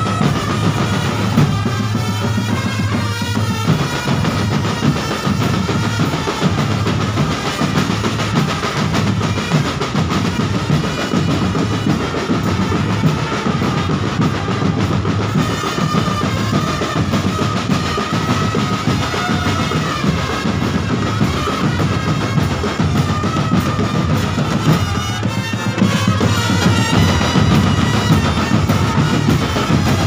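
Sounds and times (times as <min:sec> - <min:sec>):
marching drum band playing: 0:00.0 - 0:30.0.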